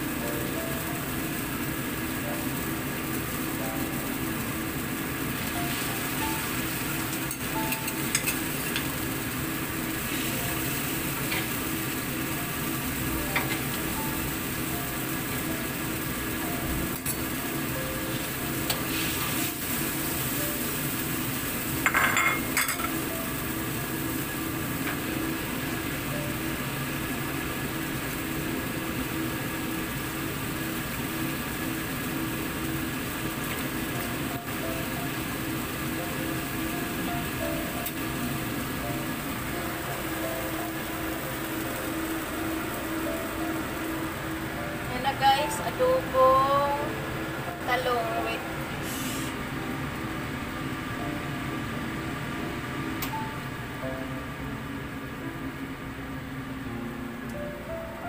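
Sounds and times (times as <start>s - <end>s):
sauce sizzling and bubbling in wok: 0.0s - 46.2s, 48.4s - 56.6s
machine hum and hiss: 0.0s - 58.0s.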